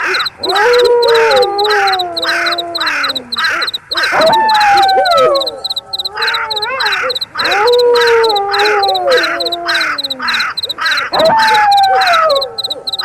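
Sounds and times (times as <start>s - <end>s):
crickets chirping: 0.0s - 13.0s
wolves howling: 0.0s - 13.0s.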